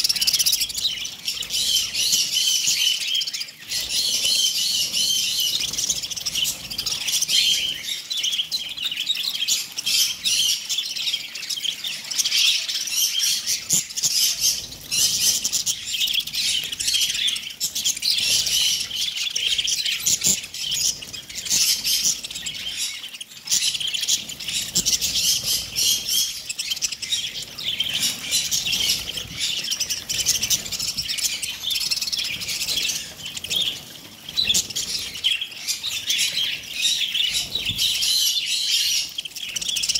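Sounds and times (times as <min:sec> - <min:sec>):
budgerigar flock chattering: 0:00.0 - 0:39.9.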